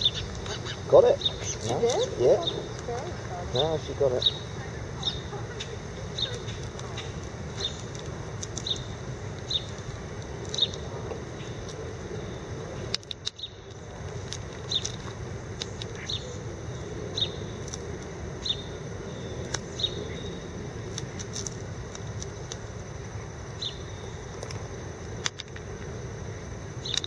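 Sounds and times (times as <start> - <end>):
small bird chirping: 0.0 - 21.2, 23.2 - 24.7, 26.8 - 27.0
distant city traffic rumble: 0.0 - 27.0.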